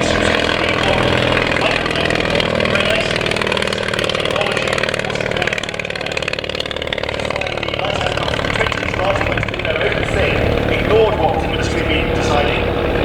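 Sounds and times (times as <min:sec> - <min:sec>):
small engine buzzing: 0:00.0 - 0:13.0.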